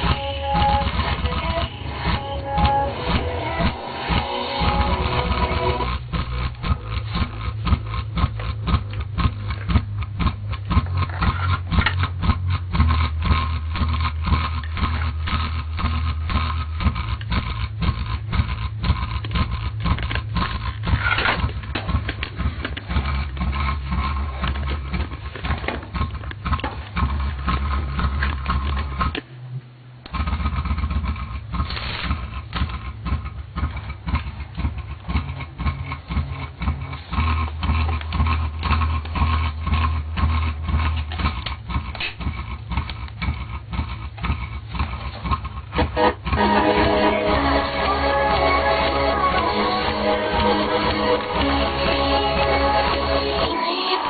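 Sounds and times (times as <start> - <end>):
dense rapid ticking: 0.0 - 29.2, 30.0 - 53.5
heavy bass notes: 0.0 - 54.0.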